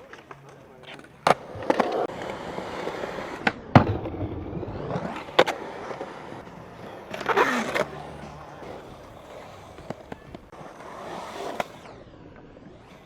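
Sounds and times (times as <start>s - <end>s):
skateboard clacking on ground: 0.0s - 10.6s
skateboard scraping grind: 0.0s - 12.0s
skateboard wheels rolling: 0.0s - 13.0s.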